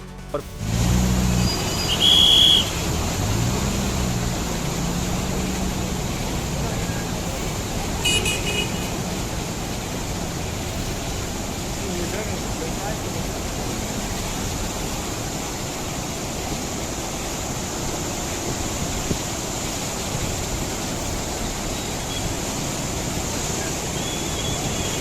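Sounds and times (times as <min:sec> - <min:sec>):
floodwater rushing: 0:00.4 - 0:25.0.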